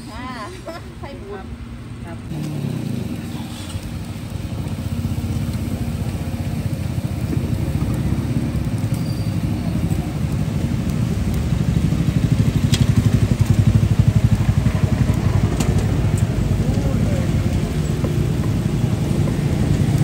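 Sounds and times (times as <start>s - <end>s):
motorcycle engine running: 2.3s - 20.0s.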